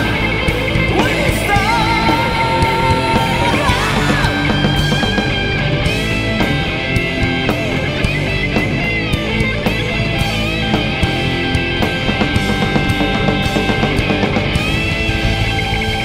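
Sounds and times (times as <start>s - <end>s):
electric guitar lead bending notes: 0.0s - 16.0s
live rock band playing: 0.0s - 16.0s.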